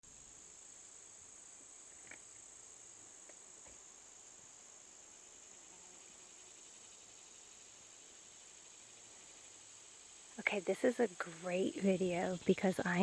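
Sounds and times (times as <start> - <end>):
high-pitched insect chorus: 0.1 - 13.0.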